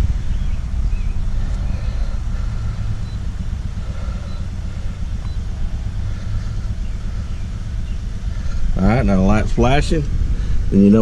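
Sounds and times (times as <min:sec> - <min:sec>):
car engine idling with misfire: 0:00.0 - 0:11.0.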